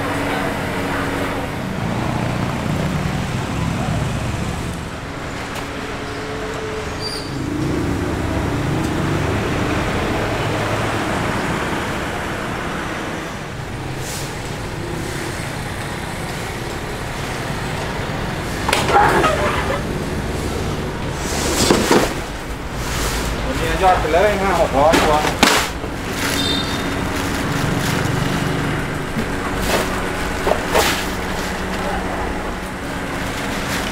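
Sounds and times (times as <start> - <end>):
road traffic: 0.0 - 33.9.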